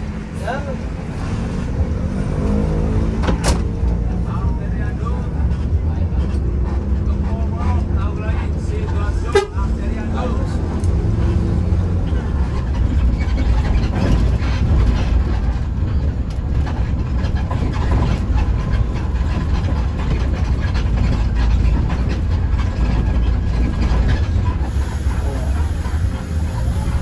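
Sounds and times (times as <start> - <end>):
bus engine drone: 0.0 - 27.0
road noise: 0.0 - 27.0
light rattling of bus body: 3.2 - 27.0.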